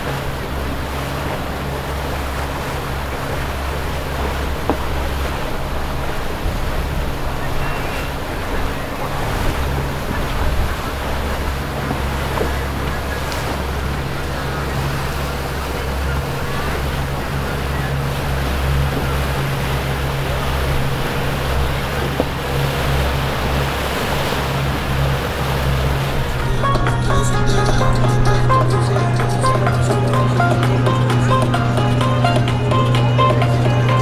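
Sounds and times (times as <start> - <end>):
motorboat engine humming: 0.0 - 34.0
water rushing along hull: 0.0 - 34.0.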